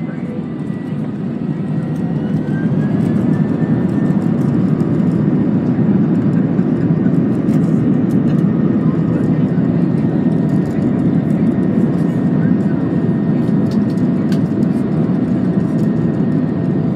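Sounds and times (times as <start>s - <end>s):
engine whine: 0.0s - 16.9s
jet engines rumbling: 0.0s - 16.9s.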